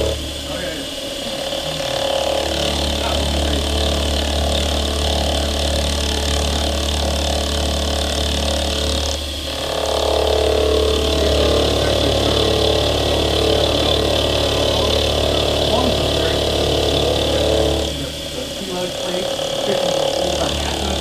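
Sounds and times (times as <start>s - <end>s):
low motor hum: 0.0s - 21.0s
milling machine whirring: 0.0s - 21.0s.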